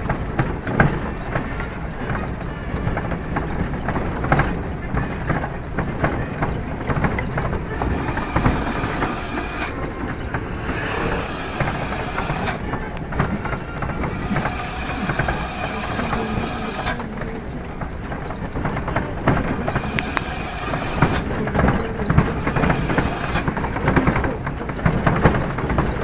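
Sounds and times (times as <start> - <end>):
rattles and small knocks: 0.0 - 26.0
vehicle engine running: 0.0 - 26.0.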